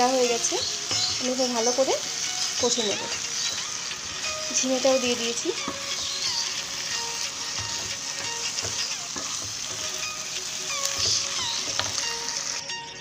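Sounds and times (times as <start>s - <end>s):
wooden spatula scraping a pan: 0.0s - 12.6s
vegetables sizzling in a wok: 0.0s - 13.0s.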